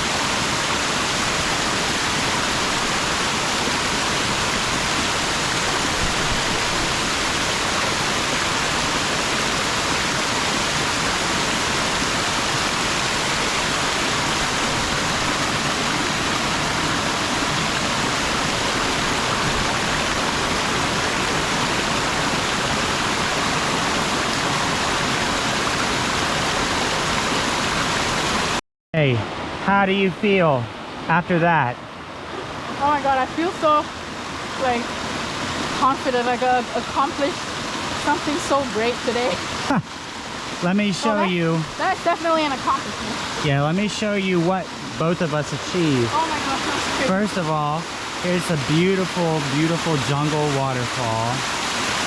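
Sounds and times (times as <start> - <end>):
waterfall rushing over rocks: 0.0 - 52.0.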